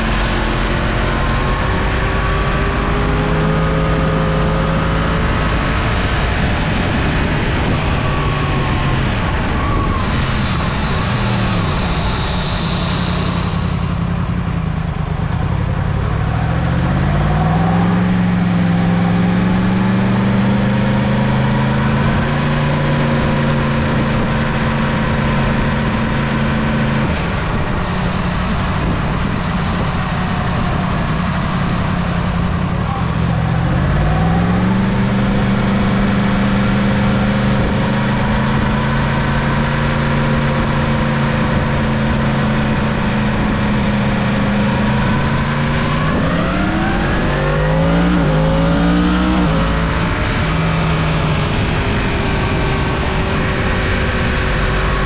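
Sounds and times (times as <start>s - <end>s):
motorcycle engine accelerating: 0.0s - 55.0s
steady rushing noise: 0.0s - 55.0s.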